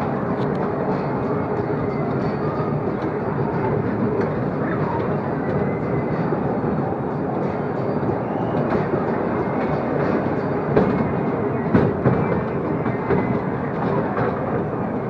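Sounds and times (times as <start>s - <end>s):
ride train rumbling on track: 0.0s - 15.0s.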